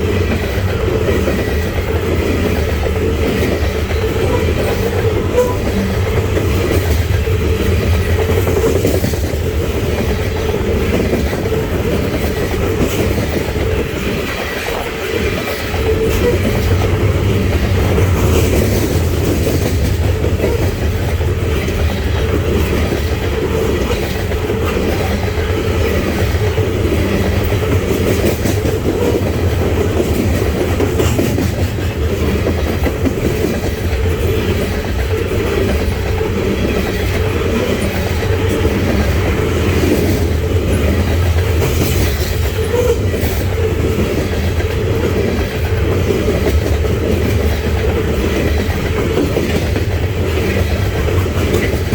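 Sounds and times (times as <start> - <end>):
train cars rumbling past: 0.0 - 51.9
wheels clicking over rail joints: 0.0 - 51.9.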